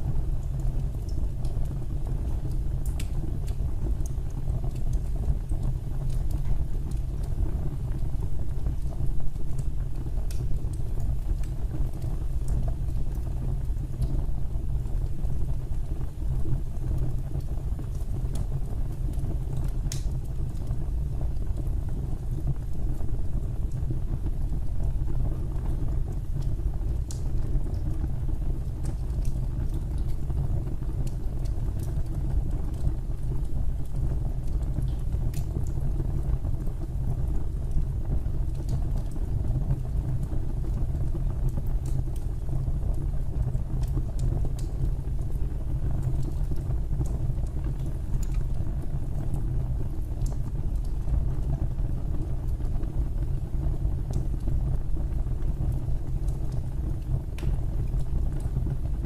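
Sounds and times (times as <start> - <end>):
fire crackles and pops: 0.0 - 59.0
fire rumbling in a fireplace: 0.0 - 59.0.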